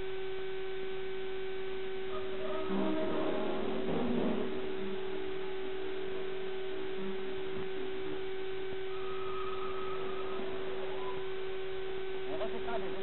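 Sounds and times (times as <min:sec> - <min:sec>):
constant hiss: 0:00.0 - 0:13.0
steady hum: 0:00.0 - 0:13.0.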